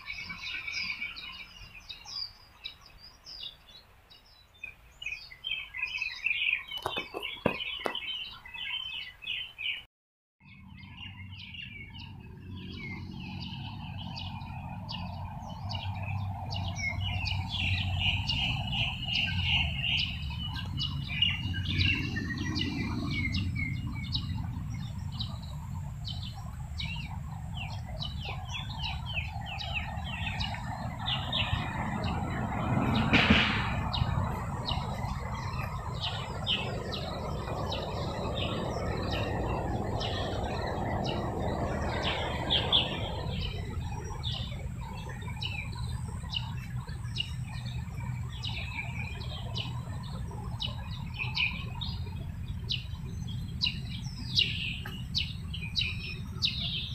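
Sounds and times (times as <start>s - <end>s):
small birds chirping: 0.0s - 56.9s
traffic rumble: 10.4s - 56.9s.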